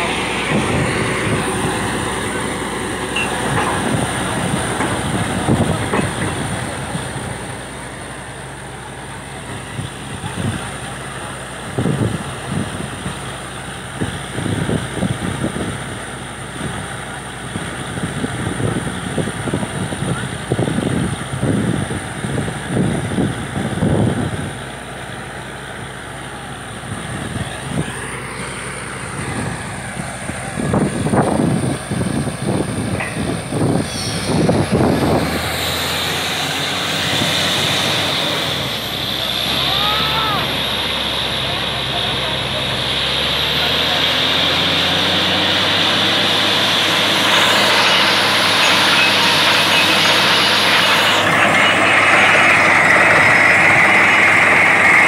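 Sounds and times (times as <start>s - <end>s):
drilling rig running: 0.0s - 55.0s.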